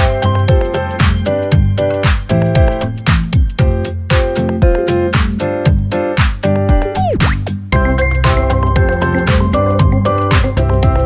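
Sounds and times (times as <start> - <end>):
kick drum beat: 0.0 - 11.0.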